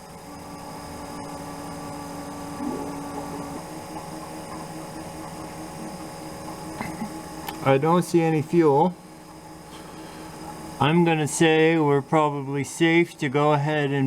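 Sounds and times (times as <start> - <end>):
electric fuel pump humming: 0.0 - 14.0.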